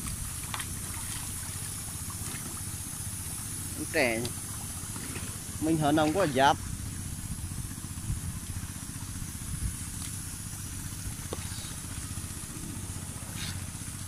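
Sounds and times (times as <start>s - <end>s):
constant hiss: 0.0s - 14.0s
motor humming: 0.0s - 14.0s.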